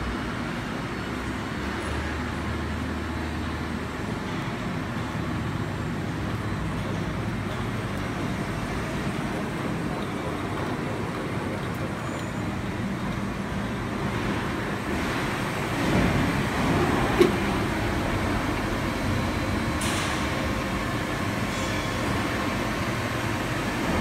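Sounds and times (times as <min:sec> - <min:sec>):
machine humming and rattling: 0:00.0 - 0:24.0.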